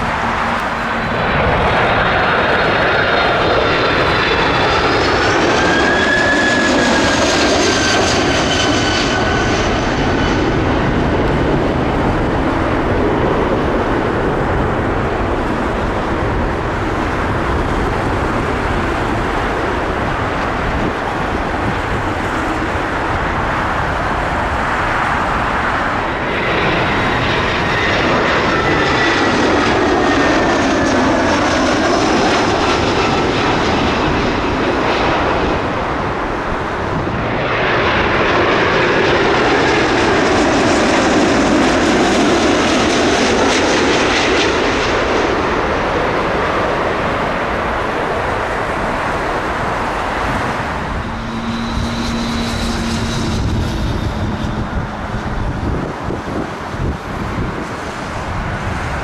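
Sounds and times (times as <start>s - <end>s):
jet engines rumbling and whining: 0.0s - 59.0s.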